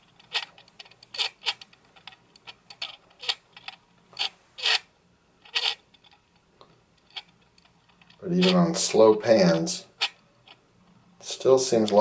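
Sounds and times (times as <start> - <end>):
lens stabiliser grinding: 0.0 - 6.4, 7.0 - 10.6.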